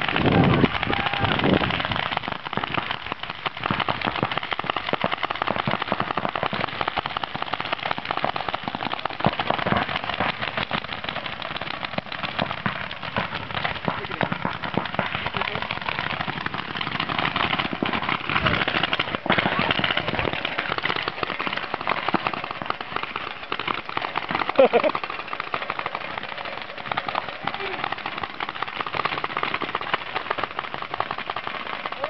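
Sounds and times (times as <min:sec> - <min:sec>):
paintball guns firing: 0:00.0 - 0:32.0.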